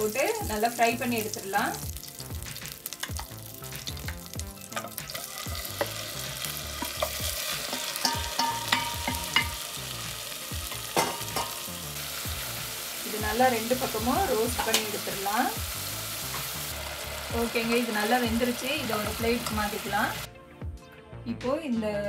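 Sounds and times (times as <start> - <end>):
prawns sizzling in butter: 0.0 - 20.3.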